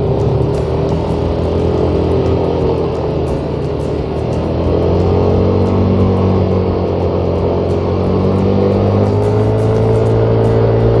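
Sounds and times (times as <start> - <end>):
guitar music: 0.0 - 11.0
motor scooter engine: 0.0 - 11.0.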